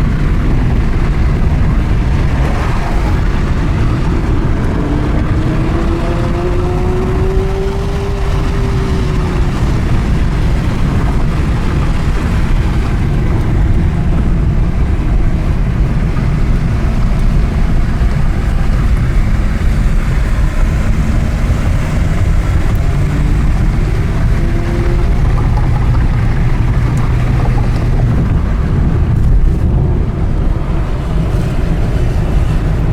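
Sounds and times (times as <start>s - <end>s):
road and wind rumble: 0.0s - 32.9s
sports car engine: 0.0s - 32.9s.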